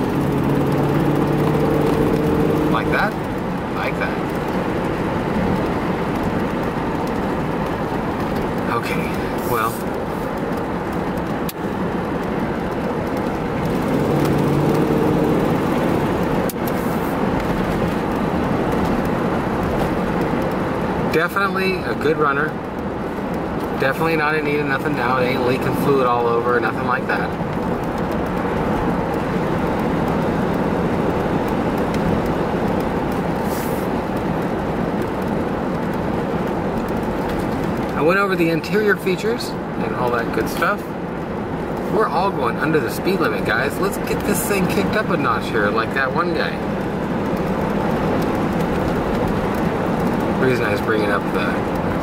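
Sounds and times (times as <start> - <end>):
car engine running: 0.0 - 52.0
road and tyre noise: 0.0 - 52.0.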